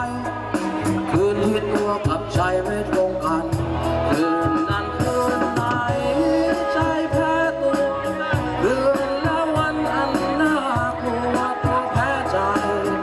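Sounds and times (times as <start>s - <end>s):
band playing a song: 0.0s - 13.0s
steady drum beat: 0.0s - 13.0s.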